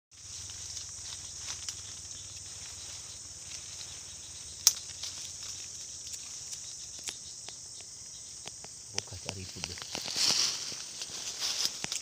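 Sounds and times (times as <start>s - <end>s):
insect chorus: 0.1s - 12.0s.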